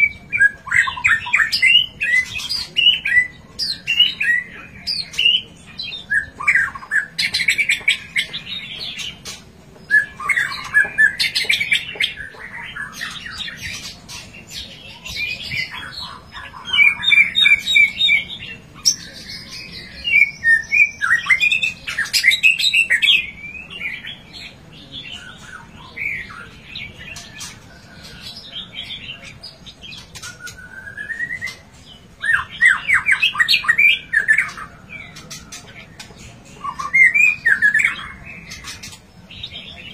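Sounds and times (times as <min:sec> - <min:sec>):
songbird singing varied phrases: 0:00.0 - 0:39.9.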